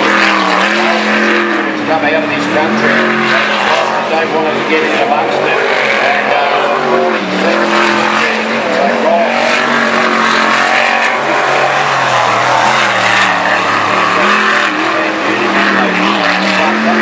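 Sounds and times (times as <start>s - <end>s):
boat engine revving: 0.0s - 17.0s.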